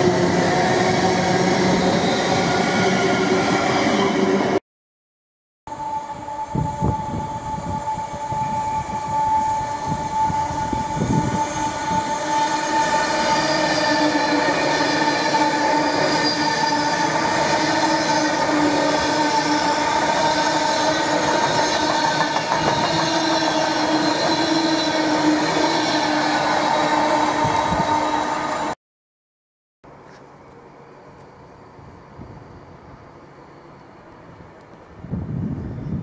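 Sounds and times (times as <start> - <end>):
electric train passing at speed: 0.0 - 4.6, 5.7 - 28.8, 29.9 - 36.0.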